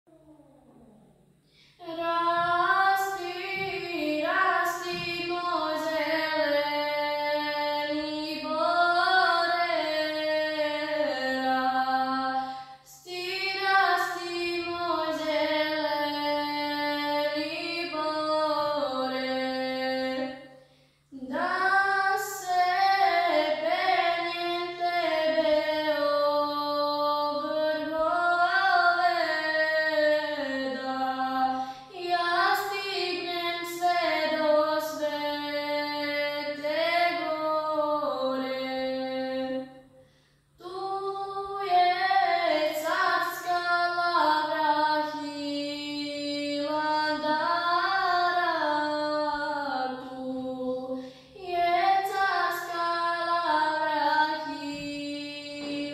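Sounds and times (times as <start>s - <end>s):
girl singing unaccompanied: 1.7s - 39.9s, 40.6s - 55.9s.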